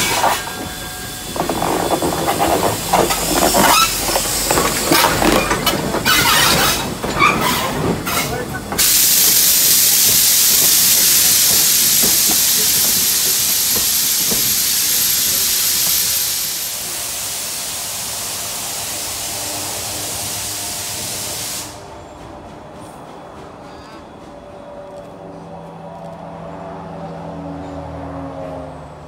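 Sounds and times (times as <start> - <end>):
steam locomotive hissing steam: 0.0 - 24.4.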